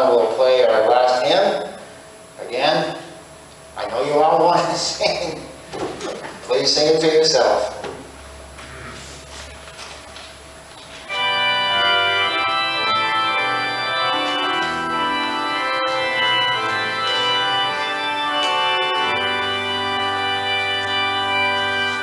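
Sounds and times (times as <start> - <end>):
organ playing a hymn: 0.0 - 3.1, 3.8 - 7.9, 11.0 - 22.0.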